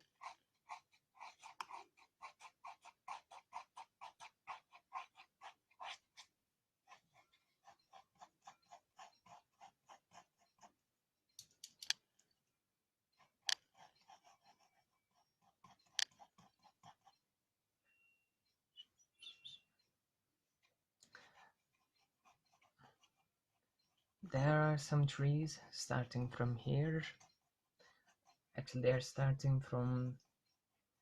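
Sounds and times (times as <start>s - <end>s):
pencil scratching on paper: 0.0s - 11.0s, 13.1s - 17.4s, 19.8s - 31.0s.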